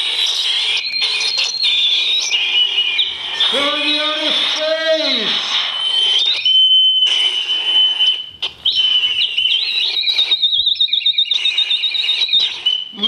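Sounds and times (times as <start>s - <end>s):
high whistling electronic tones: 0.0s - 13.0s.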